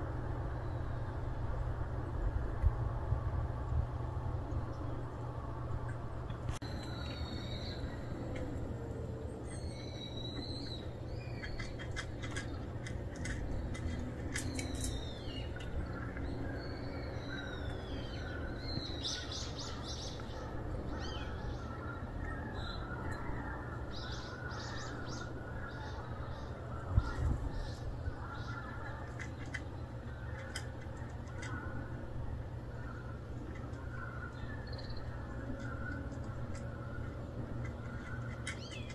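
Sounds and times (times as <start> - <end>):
low background rumble: 0.0 - 38.9
birds chirping and calling: 6.6 - 38.9.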